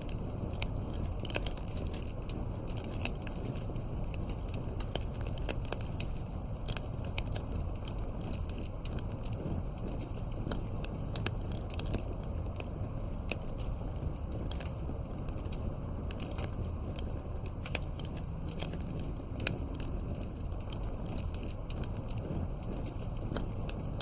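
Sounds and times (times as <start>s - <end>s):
campfire crackling and popping: 0.0s - 24.0s
rush of flame: 0.0s - 24.0s.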